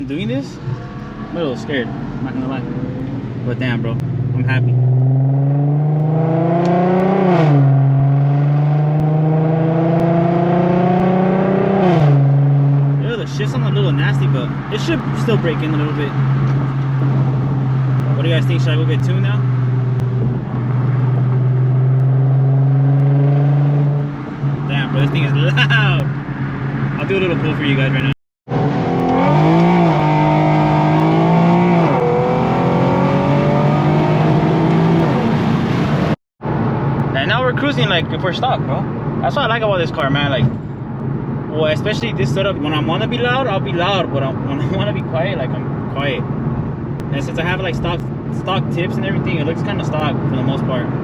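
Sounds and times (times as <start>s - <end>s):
car exhaust under hard acceleration: 0.0s - 51.0s.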